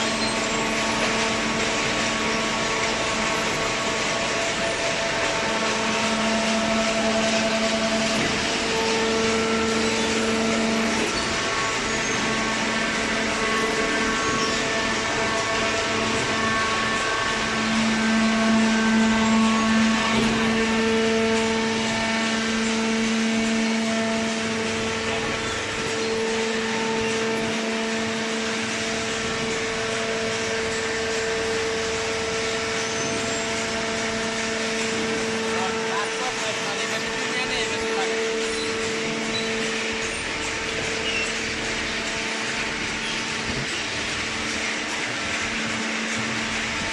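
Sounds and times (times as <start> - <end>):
hydraulic baler motor humming: 0.0 - 46.9.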